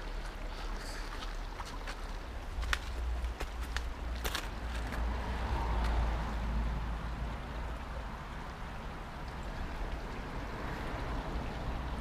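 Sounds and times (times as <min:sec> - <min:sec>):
river running over rocks: 0:00.0 - 0:12.0.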